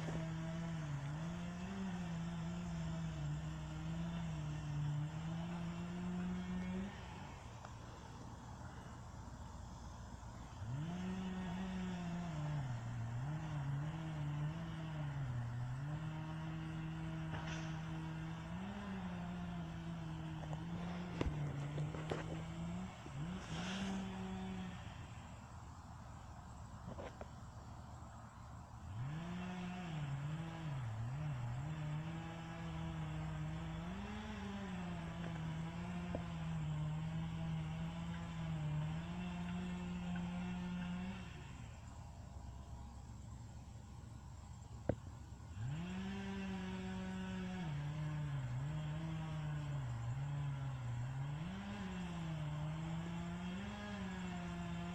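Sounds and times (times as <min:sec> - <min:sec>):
chainsaw running at high revs: 0:00.0 - 0:54.9.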